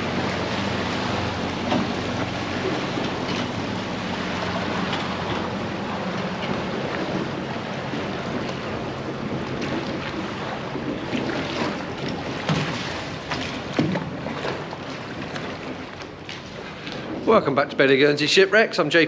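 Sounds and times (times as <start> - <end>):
wind on microphone: 0.0 - 17.6
boat engine humming: 0.0 - 19.0
water lapping: 0.0 - 19.0.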